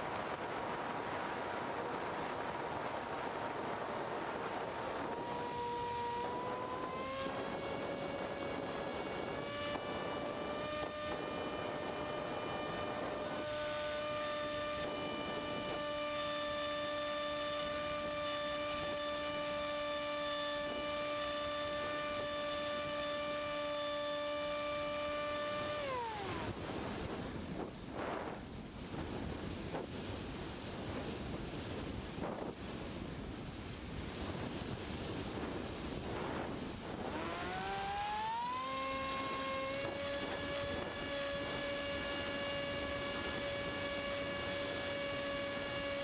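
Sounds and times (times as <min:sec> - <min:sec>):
electric motor propeller whine: 0:00.0 - 0:46.0.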